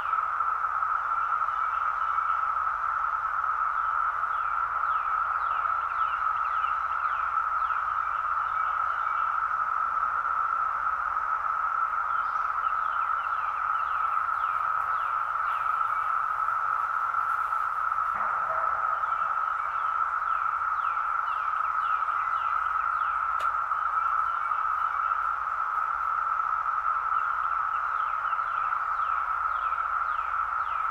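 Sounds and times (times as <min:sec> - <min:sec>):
cicadas droning: 0:00.0 - 0:30.9
short falling cicada chirps: 0:00.0 - 0:30.9.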